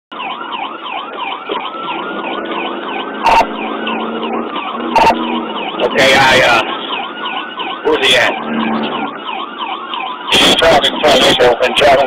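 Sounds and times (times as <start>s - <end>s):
loud siren bursts: 0.1s - 12.0s
police siren yelping: 0.1s - 12.0s.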